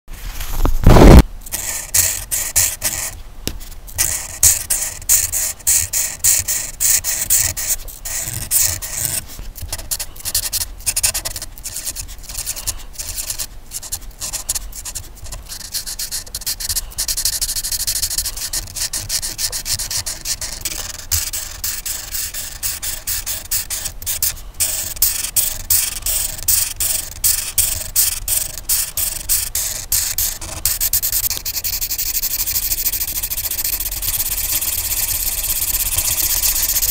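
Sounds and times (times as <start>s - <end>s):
scratchy colouring strokes on paper: 0.9s - 36.9s.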